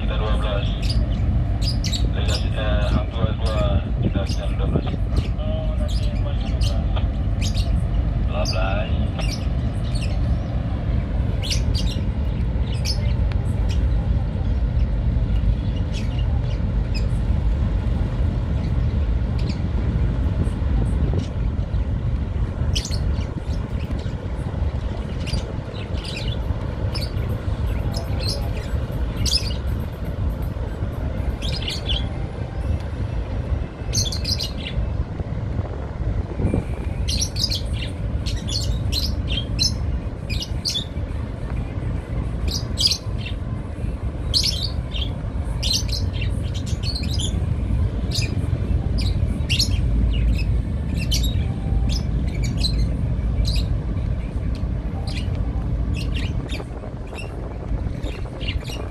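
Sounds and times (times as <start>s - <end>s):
steady low rumble: 0.0s - 58.9s
small birds chirping: 0.1s - 17.3s, 21.1s - 30.4s, 33.8s - 34.9s, 36.5s - 58.9s.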